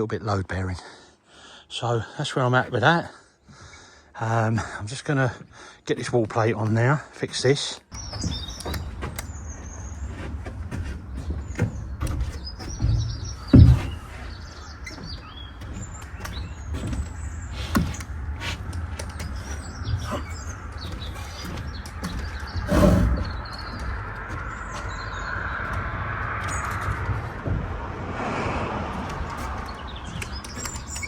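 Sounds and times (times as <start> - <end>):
small birds chirping: 0.6 - 28.0, 28.6 - 31.0.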